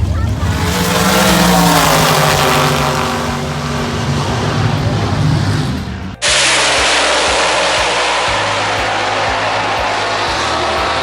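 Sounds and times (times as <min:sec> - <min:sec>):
car engine passing loudly: 0:00.0 - 0:11.0.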